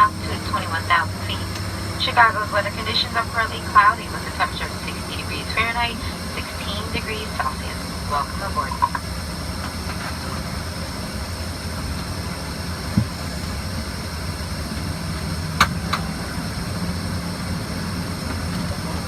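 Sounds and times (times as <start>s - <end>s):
faint high whine: 0.0s - 19.0s
jet cabin drone: 0.0s - 19.0s.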